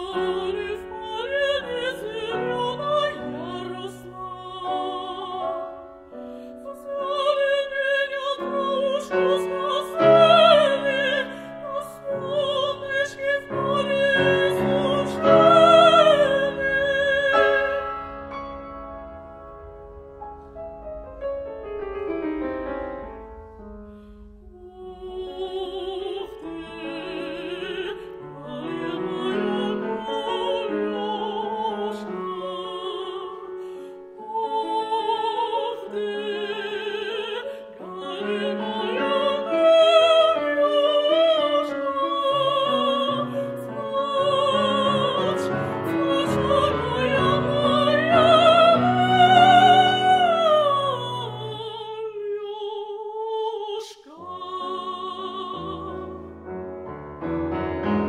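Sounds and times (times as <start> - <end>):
piano chords: 0.0 - 52.8, 54.1 - 58.0
classical singing with vibrato: 0.0 - 58.0.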